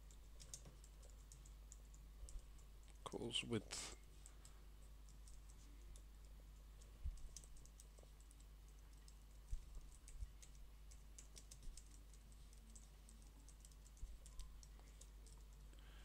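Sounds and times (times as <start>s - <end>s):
typing on keyboard: 0.0s - 3.0s, 4.2s - 15.7s
low steady hum: 0.0s - 16.0s.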